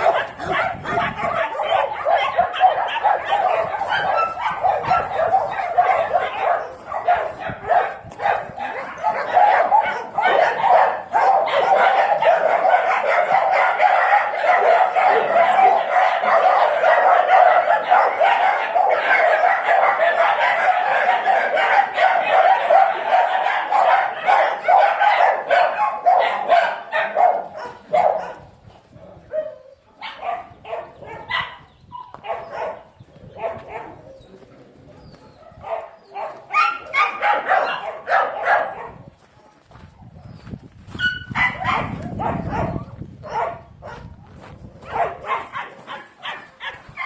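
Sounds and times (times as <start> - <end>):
dogs barking: 0.0 - 34.4, 35.0 - 39.2, 41.0 - 47.0.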